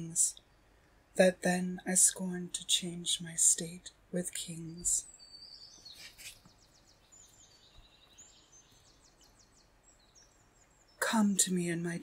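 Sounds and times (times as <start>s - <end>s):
birds chirping and trilling: 0.0s - 12.0s
soft background hiss: 0.0s - 12.0s.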